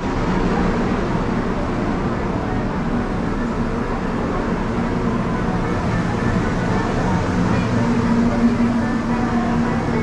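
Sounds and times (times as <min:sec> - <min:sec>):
roller coaster cars rolling on track: 0:00.0 - 0:10.0.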